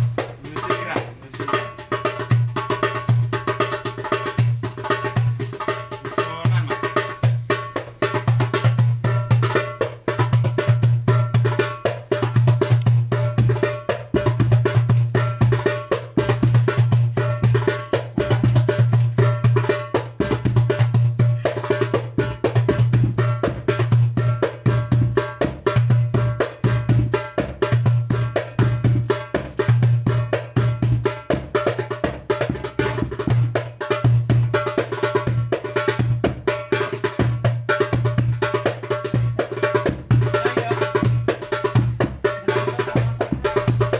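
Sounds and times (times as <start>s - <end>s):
hand drum played solo: 0.0s - 43.9s.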